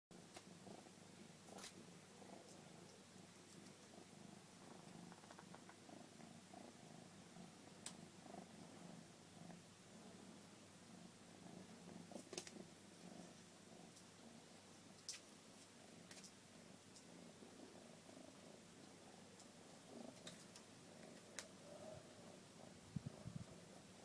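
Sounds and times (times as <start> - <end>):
kitten purring: 0.1 - 24.0.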